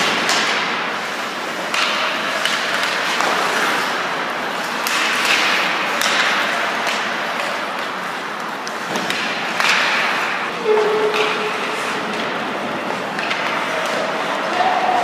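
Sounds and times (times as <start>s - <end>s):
hockey sticks and puck clicking: 0.0s - 15.0s
skates scraping on ice: 0.0s - 15.0s.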